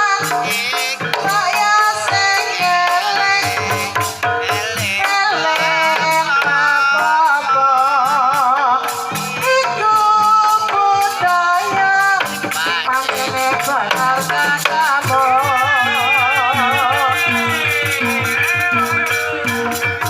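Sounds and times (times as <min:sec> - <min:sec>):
gamelan accompaniment: 0:00.0 - 0:20.0
quick percussion beat: 0:00.0 - 0:20.0.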